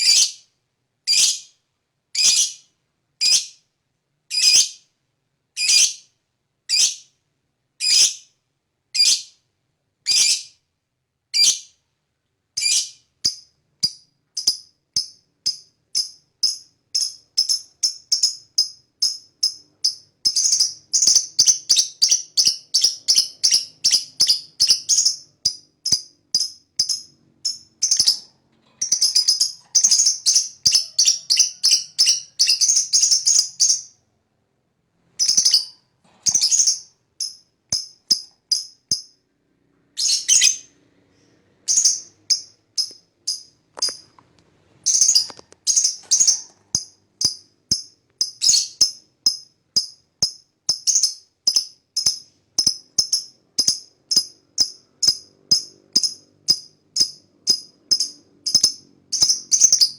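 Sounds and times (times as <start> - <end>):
lovebird calling and trilling: 0.0 - 0.4, 1.1 - 1.5, 2.2 - 3.6, 4.3 - 4.8, 5.6 - 6.0, 6.7 - 7.1, 7.8 - 8.3, 9.0 - 9.4, 10.1 - 10.6, 11.4 - 11.8, 12.6 - 34.0, 35.1 - 39.1, 40.0 - 40.7, 41.6 - 44.2, 44.8 - 59.9.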